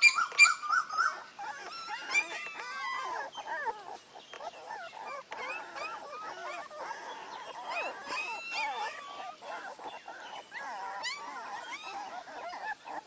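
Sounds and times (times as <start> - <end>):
puppies whimpering and squeaking: 0.0 - 13.0.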